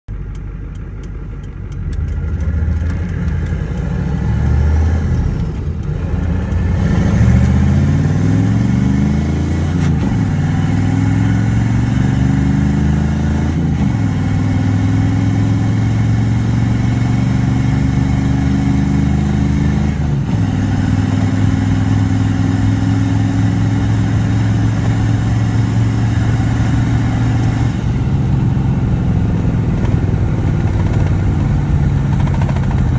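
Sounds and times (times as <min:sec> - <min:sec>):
diesel truck accelerating hard: 0:01.5 - 0:32.9.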